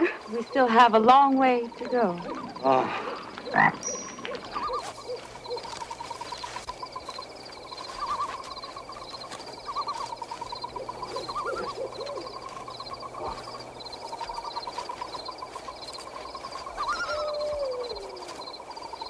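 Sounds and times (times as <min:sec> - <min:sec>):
frogs trilling chorus: 0:00.0 - 0:19.0
low wavering hoots: 0:01.6 - 0:19.0.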